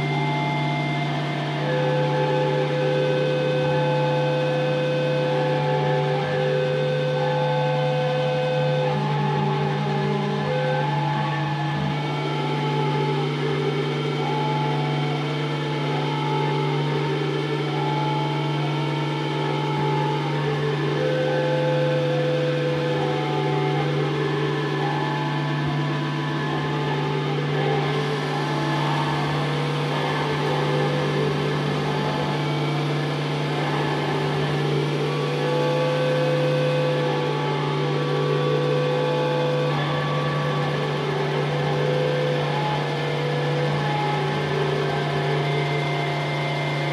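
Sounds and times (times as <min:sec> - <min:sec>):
experimental drone music: 0:00.0 - 0:46.9.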